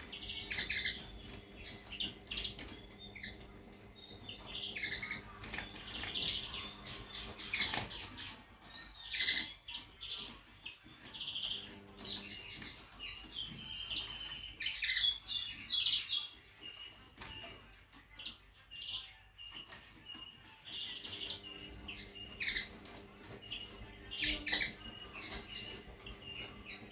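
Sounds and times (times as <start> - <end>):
linnet twittering song: 0.0 - 26.9.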